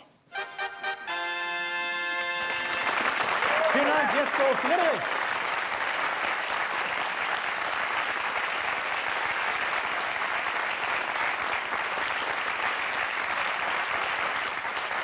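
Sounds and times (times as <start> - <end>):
audience applauding: 1.8 - 15.0.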